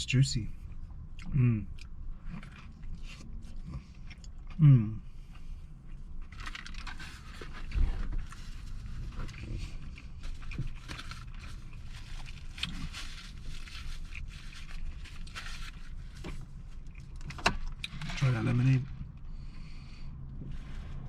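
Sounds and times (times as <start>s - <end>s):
chewing crispy food: 0.7s - 18.1s.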